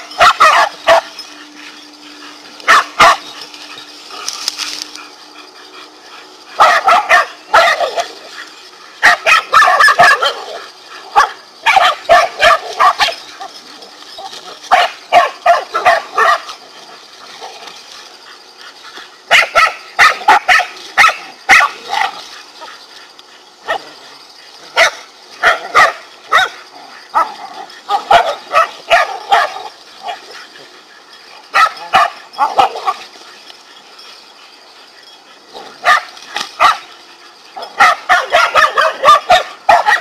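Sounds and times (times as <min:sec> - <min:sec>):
dogs barking and yipping: 0:00.0 - 0:40.0.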